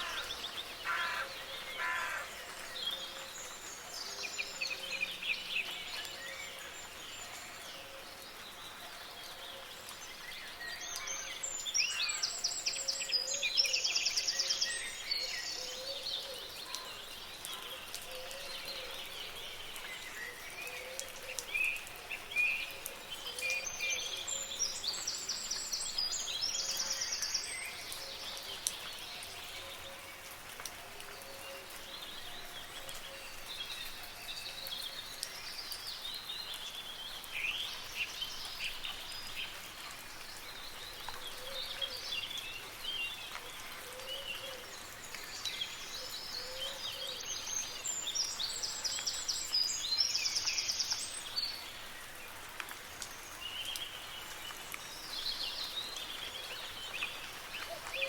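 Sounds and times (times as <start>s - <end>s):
soft rain hissing: 0.0s - 58.0s.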